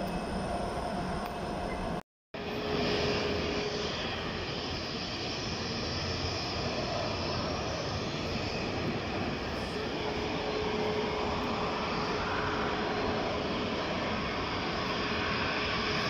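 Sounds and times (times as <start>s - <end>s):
faint jet engine whine: 0.0s - 16.0s
jet engines rushing: 0.0s - 16.0s.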